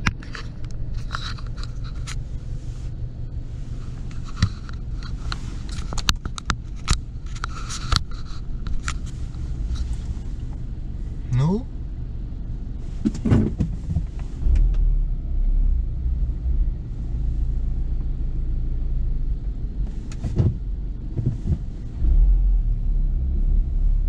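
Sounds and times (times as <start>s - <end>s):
low rumble of car wash: 0.0s - 24.0s.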